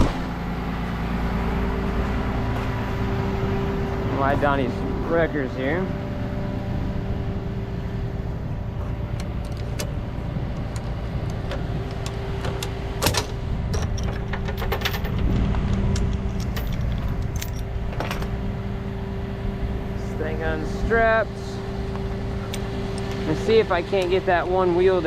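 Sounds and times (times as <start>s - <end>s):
tow truck engine running: 0.0s - 25.0s.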